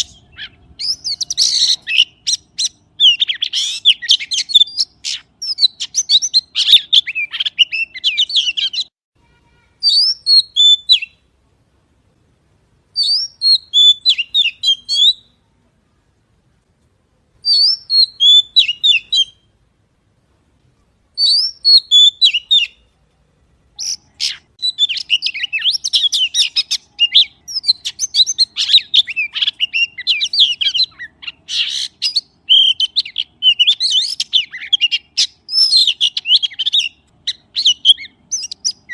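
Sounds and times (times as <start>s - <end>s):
magpie chirping and whistling: 0.0s - 8.9s, 9.8s - 11.2s, 13.0s - 15.4s, 17.4s - 19.5s, 21.2s - 22.8s, 23.8s - 38.9s.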